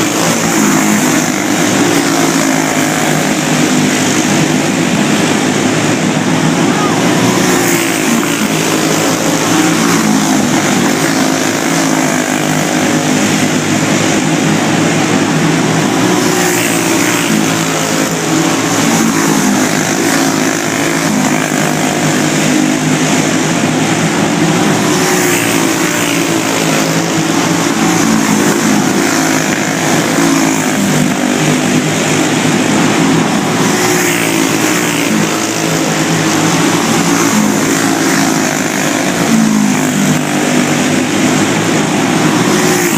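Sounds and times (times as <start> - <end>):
go-kart engines racing: 0.0 - 42.9.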